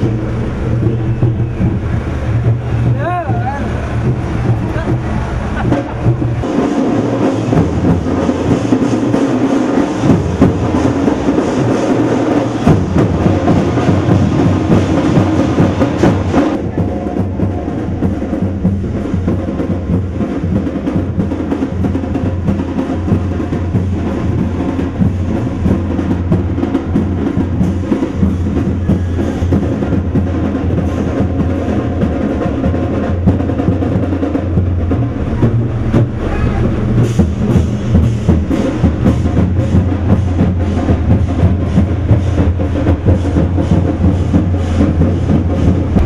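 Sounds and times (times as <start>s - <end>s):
percussion-heavy music: 0.0s - 46.0s.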